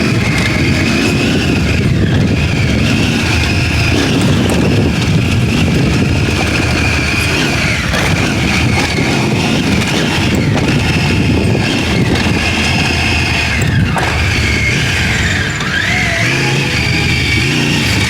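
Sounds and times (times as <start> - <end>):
high whine: 0.0 - 18.0
motorcycle engine running: 0.0 - 18.0
wind and riding noise: 0.0 - 18.0.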